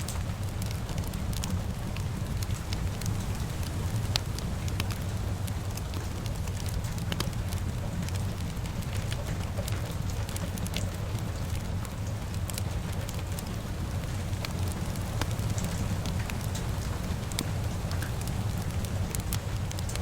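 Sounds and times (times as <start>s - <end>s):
rain hissing: 0.0s - 20.0s
wood fire crackling and popping: 0.0s - 20.0s.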